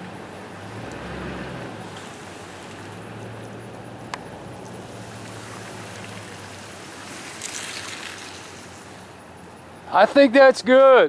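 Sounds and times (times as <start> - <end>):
truck engine running: 0.0 - 10.3.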